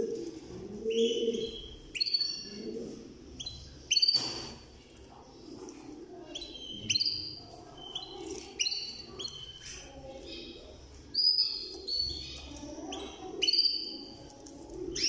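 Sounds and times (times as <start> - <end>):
canaries chirping: 0.0 - 15.0.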